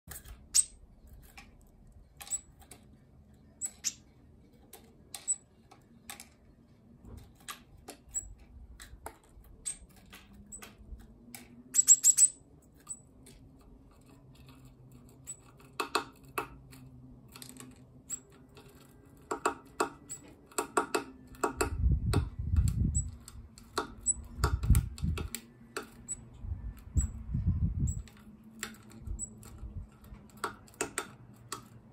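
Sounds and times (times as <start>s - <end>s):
bird pecking seed shells: 0.1s - 21.7s, 27.9s - 31.9s.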